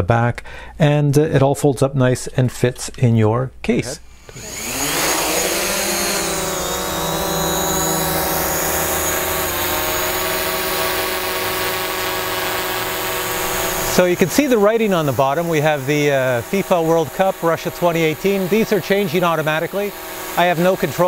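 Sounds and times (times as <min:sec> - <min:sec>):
drone propeller buzz: 0:04.1 - 0:21.0.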